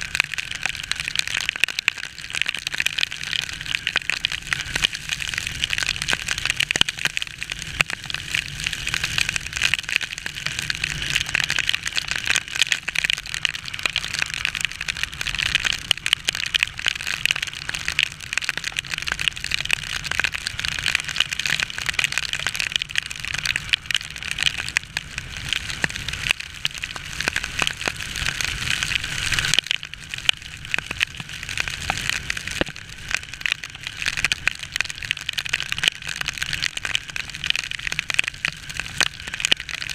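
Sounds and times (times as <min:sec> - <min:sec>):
heavy rain spattering on camera: 0:00.0 - 0:39.9.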